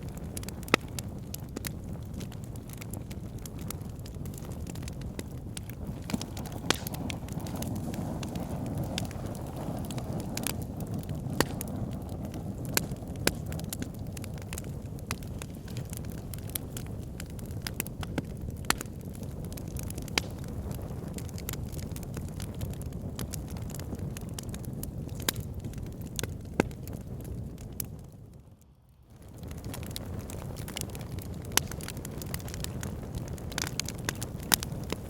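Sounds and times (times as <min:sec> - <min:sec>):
fire crackling and popping: 0:00.0 - 0:35.0
low rumble of flames: 0:00.0 - 0:35.0.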